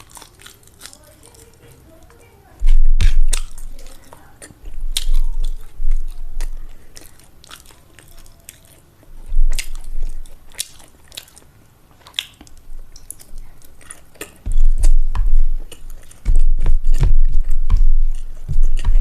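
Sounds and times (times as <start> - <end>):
person chewing food: 0.0 - 19.0
wet mouth clicks: 2.6 - 19.0.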